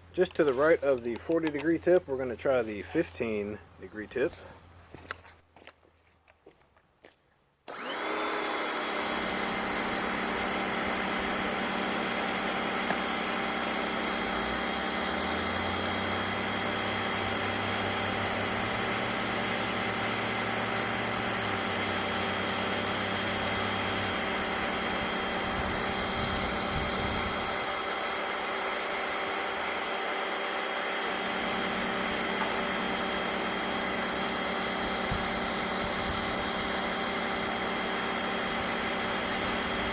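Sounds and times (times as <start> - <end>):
pressure washer motor whining: 7.7 - 39.9.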